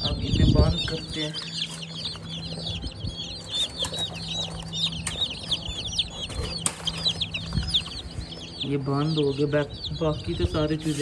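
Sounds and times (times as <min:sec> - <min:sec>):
chicks peeping: 0:00.0 - 0:11.0
low steady hum: 0:00.0 - 0:11.0.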